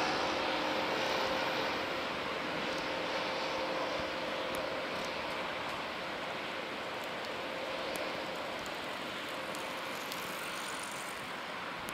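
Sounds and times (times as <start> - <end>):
distant light aircraft drone: 0.0 - 11.9
wind hiss: 0.0 - 11.9.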